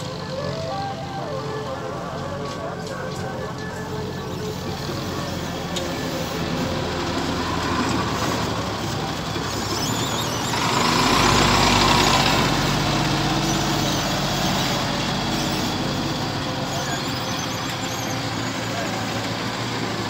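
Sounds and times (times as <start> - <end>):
truck diesel engine driving past: 0.0 - 20.0.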